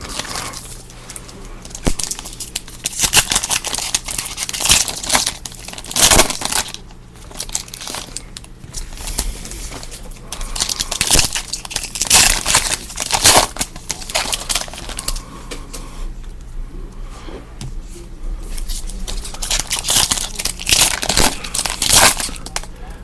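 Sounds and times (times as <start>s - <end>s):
foil wrappers crinkling and tearing: 0.0s - 15.3s, 18.5s - 22.9s.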